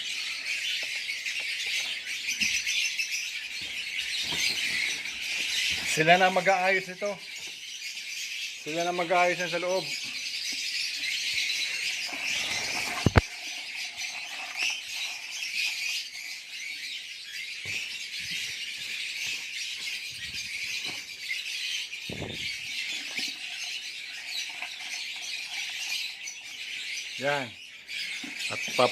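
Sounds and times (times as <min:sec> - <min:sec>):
birds chattering shrilly: 0:00.0 - 0:28.9.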